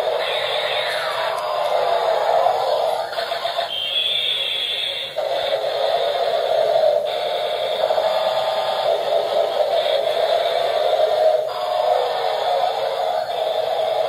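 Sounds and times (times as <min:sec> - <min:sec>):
toy warbling electronic buzz: 0:00.0 - 0:14.0.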